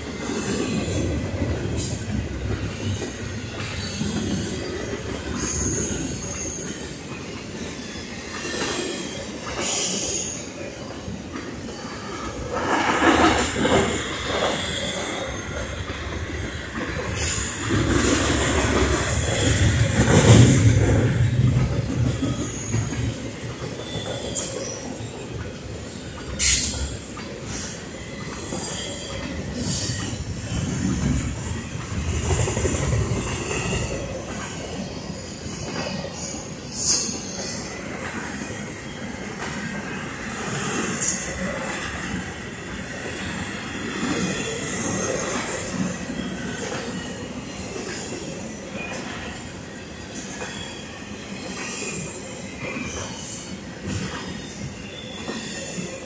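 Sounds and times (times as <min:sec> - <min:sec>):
train wheels rumbling and clattering: 0:00.0 - 0:56.0.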